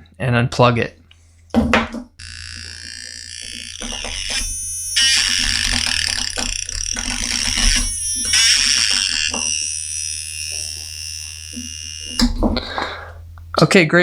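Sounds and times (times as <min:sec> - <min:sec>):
harsh buzzing synth-like noise: 0:02.0 - 0:13.6.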